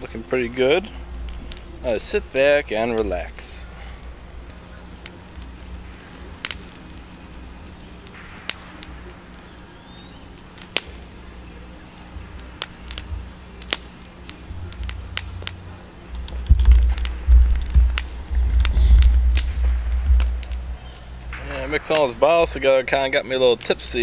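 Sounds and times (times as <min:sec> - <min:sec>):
campfire crackling: 0:00.0 - 0:24.0
low rumble: 0:03.6 - 0:23.2
sharp pops: 0:04.5 - 0:24.0.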